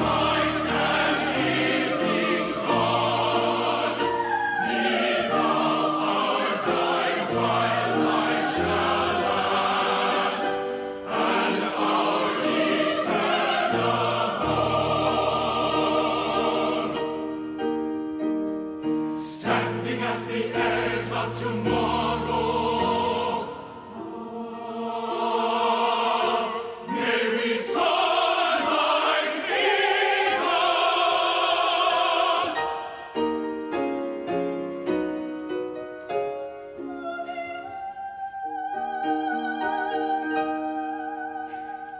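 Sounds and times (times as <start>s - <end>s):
choir singing: 0.0s - 17.9s, 18.9s - 35.4s.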